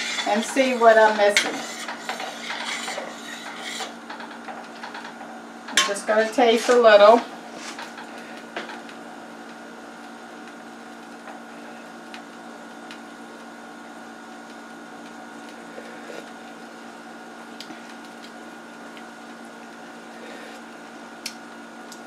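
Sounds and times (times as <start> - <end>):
mechanical hum with whine: 0.0 - 22.0.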